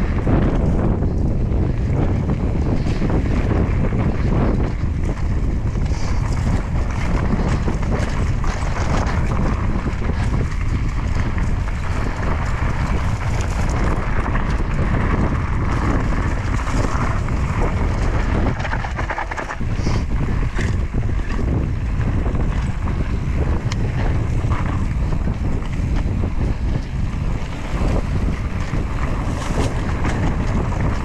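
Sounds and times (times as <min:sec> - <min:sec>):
bike knocks and rattles: 0:00.0 - 0:31.0
wind buffeting microphone: 0:00.0 - 0:31.0.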